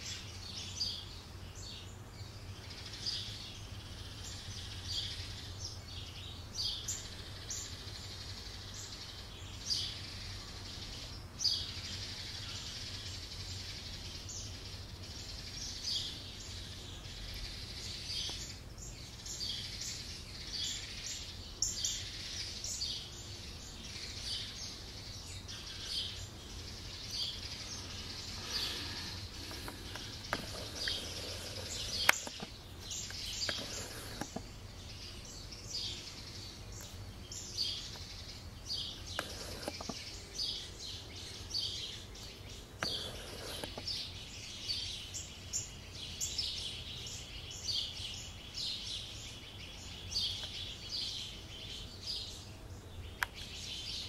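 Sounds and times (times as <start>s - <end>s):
low background noise: 0.0s - 54.0s
small birds chirping: 0.0s - 54.0s.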